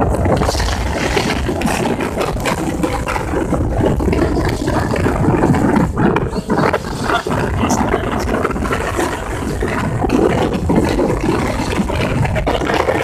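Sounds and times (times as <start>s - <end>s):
boat engine: 0.0s - 13.0s
water rushing along hull: 0.0s - 13.0s
wind on microphone: 0.0s - 13.0s.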